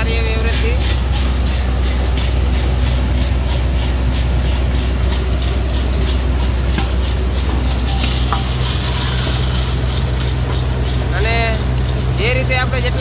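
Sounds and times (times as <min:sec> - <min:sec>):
seeds pouring into metal tub: 0:00.0 - 0:13.0
thresher running with deep hum: 0:00.0 - 0:13.0.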